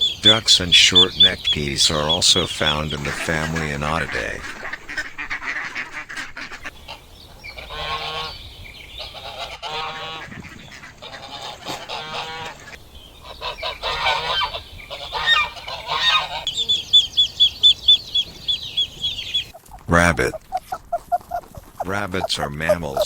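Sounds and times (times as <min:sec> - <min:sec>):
waterfowl honking: 0:00.2 - 0:08.4, 0:09.0 - 0:23.0.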